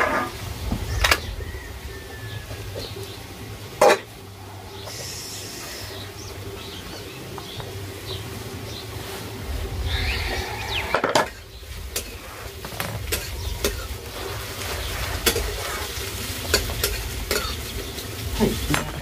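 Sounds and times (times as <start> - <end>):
potatoes frying: 0.0 - 19.0.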